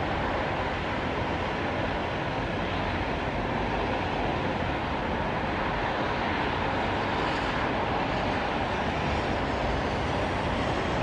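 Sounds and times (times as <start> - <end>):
highway traffic on wet pavement: 0.0 - 11.0
rain: 0.0 - 11.0.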